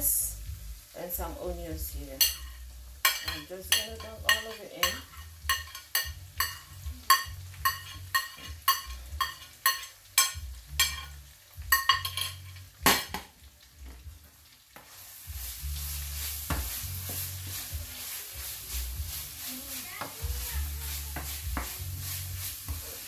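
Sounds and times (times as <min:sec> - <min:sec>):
vegetables sizzling in pan: 0:00.0 - 0:23.0.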